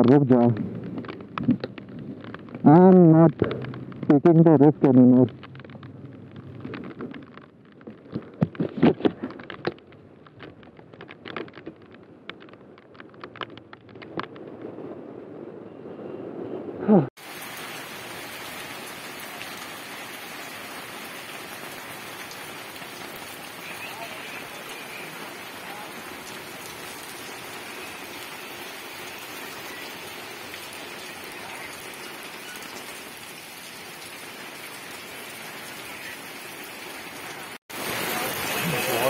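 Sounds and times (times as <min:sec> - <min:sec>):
heavy rain on street: 0:00.0 - 0:08.5, 0:09.2 - 0:15.5, 0:16.8 - 0:39.0.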